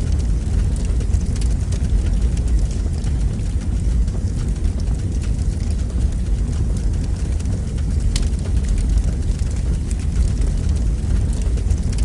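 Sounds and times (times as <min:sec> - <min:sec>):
fire crackling and popping: 0:00.0 - 0:12.0
fire roaring in fireplace: 0:00.0 - 0:12.0.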